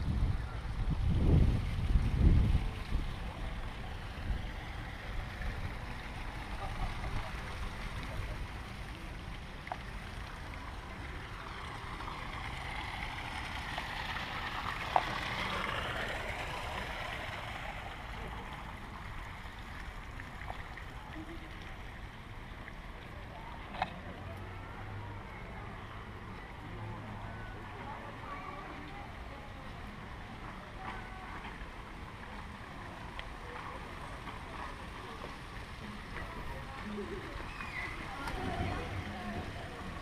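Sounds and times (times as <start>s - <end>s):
shopping mall background noise: 0.0s - 40.0s.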